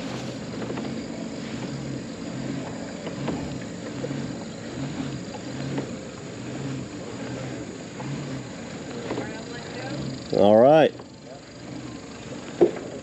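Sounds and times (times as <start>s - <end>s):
pedal drive humming in pulses: 0.0s - 13.0s
wind and water hiss: 0.0s - 13.0s.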